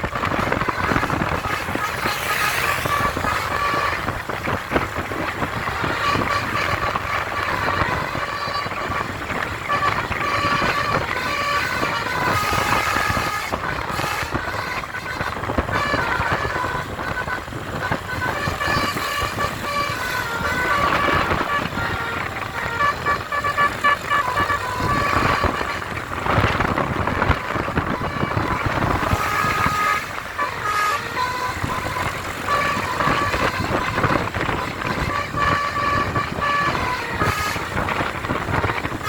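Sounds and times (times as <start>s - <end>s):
bus horn playing a tune: 0.0s - 39.0s.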